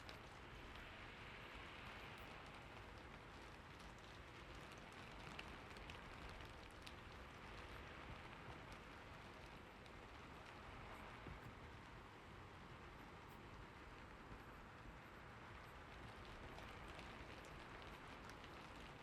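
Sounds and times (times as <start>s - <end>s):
faint steady rain: 0.0s - 19.0s.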